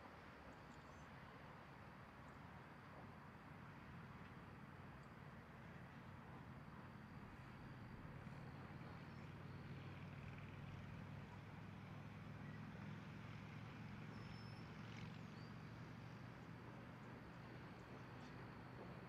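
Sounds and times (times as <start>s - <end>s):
faint low engine rumble: 0.0s - 19.0s.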